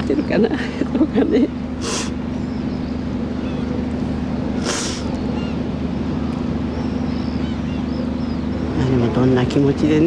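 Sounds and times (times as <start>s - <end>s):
ship engine drone: 0.0s - 10.0s.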